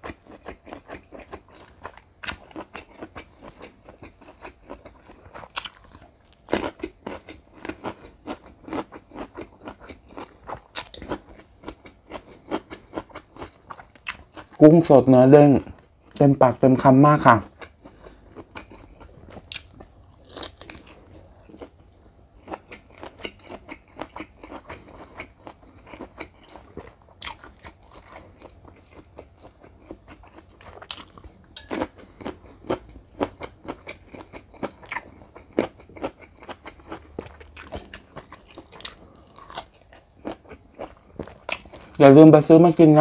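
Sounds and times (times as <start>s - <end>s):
wet chewing and crunching: 0.0s - 14.6s, 17.2s - 42.2s.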